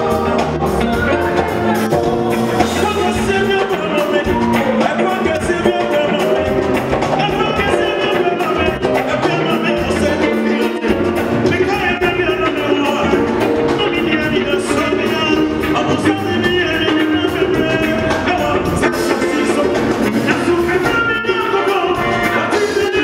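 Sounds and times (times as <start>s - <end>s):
live gospel band playing: 0.0s - 23.0s
steady drum beat: 0.0s - 23.0s
man singing into a microphone: 1.7s - 23.0s.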